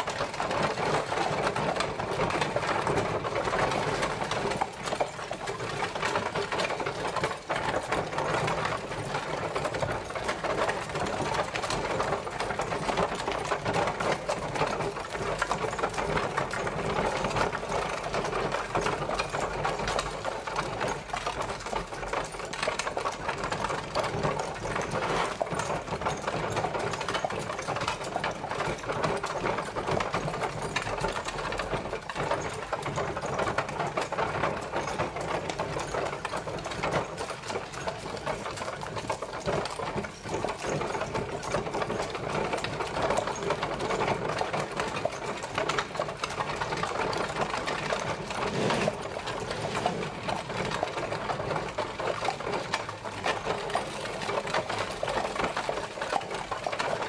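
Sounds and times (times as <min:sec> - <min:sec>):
horse-drawn carriage clattering: 0:00.0 - 0:57.0.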